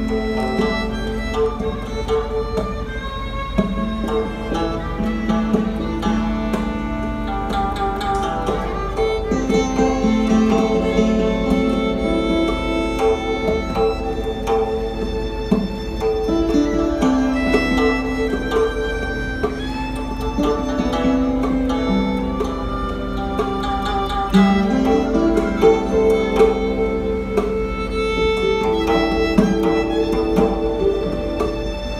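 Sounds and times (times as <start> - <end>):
guzheng plucked notes: 0.0 - 31.9
hammered dulcimer: 0.0 - 31.9
violin bowed notes: 0.0 - 31.9.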